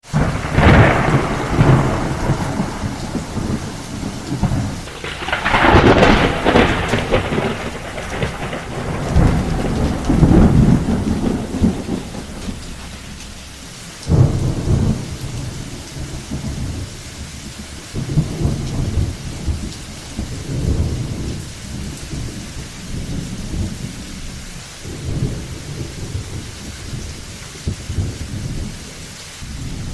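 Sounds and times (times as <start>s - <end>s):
heavy rain falling: 0.0s - 29.9s
rolling thunder: 0.1s - 29.9s.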